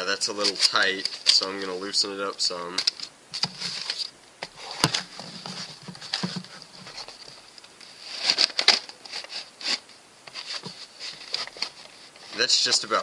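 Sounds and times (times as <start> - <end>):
cardboard rustling and scraping: 0.0 - 13.0.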